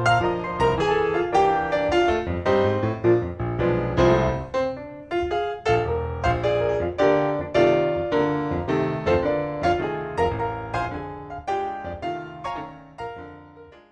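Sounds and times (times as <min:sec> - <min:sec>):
piano chords: 0:00.0 - 0:13.9.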